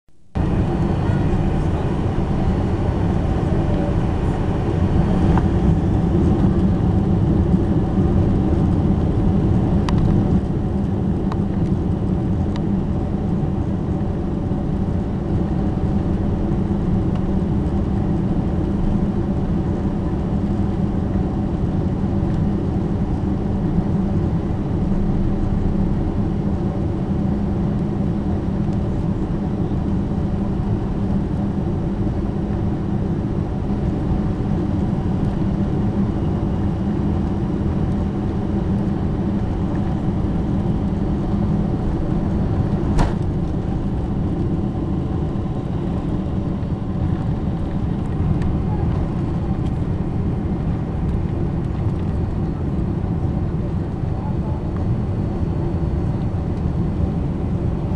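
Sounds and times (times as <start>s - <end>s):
aircraft cabin rumble: 0.1s - 57.9s
faint steady hums: 0.1s - 57.9s.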